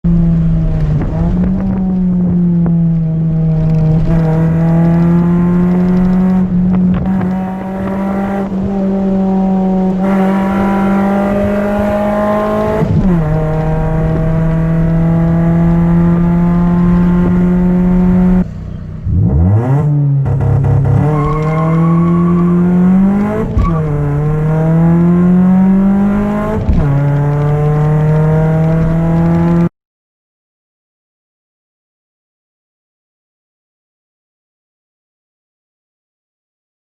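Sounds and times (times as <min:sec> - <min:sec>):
loud car engine revving: 0:00.1 - 0:29.7.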